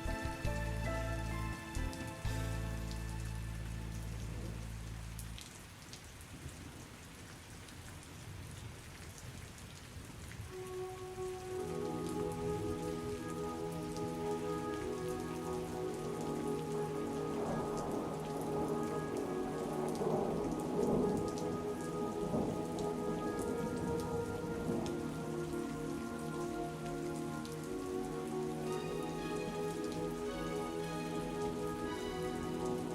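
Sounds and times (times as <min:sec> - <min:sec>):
soft music of held notes: 0:00.0 - 0:05.4, 0:10.5 - 0:32.9
steady rain: 0:00.0 - 0:32.9.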